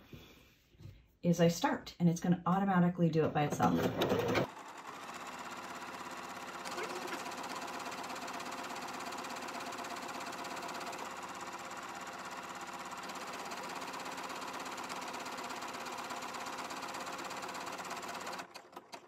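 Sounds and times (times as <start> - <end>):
sewing machine stitching: 3.6 - 19.0.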